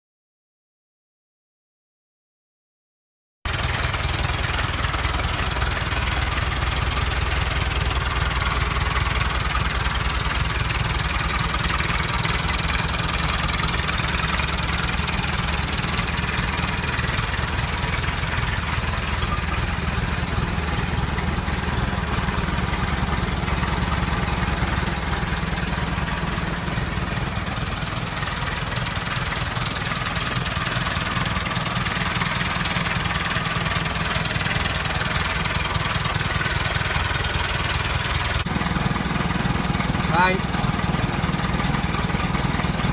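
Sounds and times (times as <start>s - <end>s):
tractor diesel engine idling: 3.5s - 42.9s.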